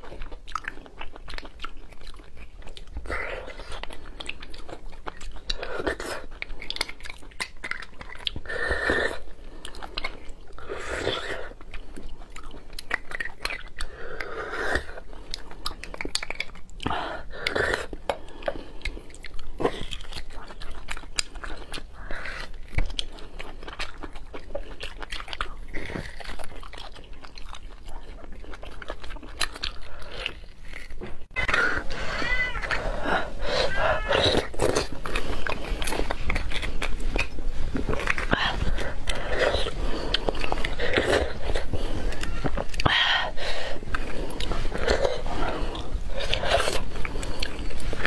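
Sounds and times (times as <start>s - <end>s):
close chewing and biting meat: 0.0s - 48.0s.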